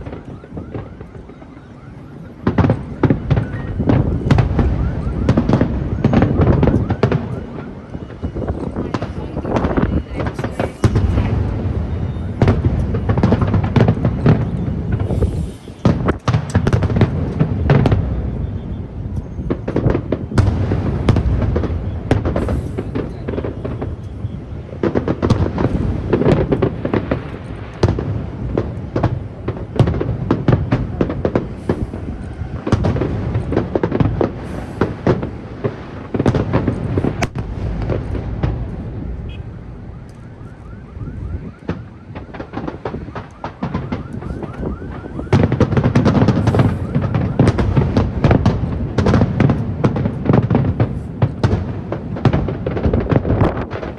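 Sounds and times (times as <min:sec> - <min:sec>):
fireworks bangs and booms: 0:00.0 - 0:53.9.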